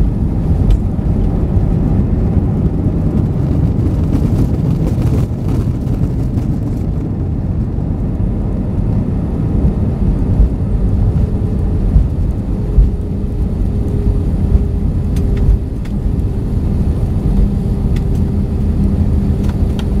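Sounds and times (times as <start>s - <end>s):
jet airliner low rumble: 0.0s - 20.0s.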